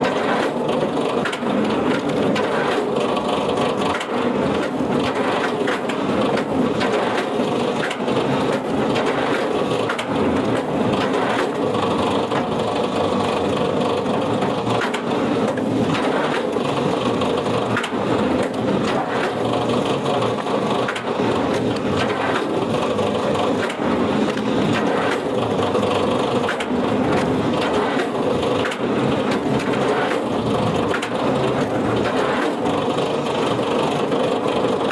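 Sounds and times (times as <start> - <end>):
machinery crunching wood: 4.4 - 34.9.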